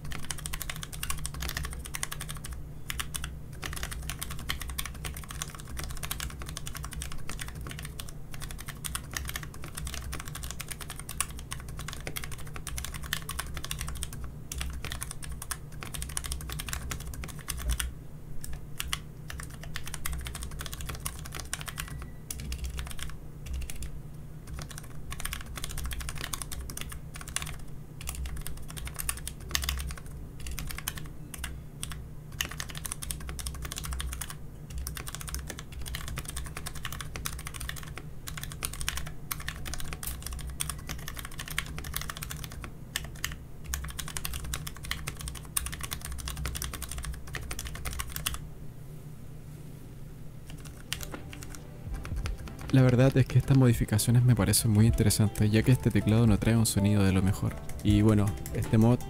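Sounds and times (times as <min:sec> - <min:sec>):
typing on mechanical keyboard: 0:00.0 - 0:23.9, 0:24.5 - 0:48.4, 0:50.5 - 0:53.8, 0:57.5 - 0:59.0.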